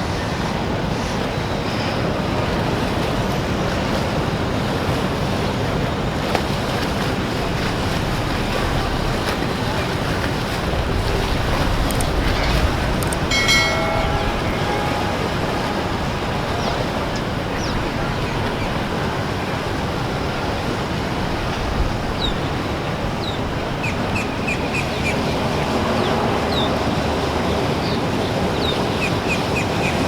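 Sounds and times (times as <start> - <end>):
boat noise: 0.0 - 30.0
water rushing: 0.0 - 30.0.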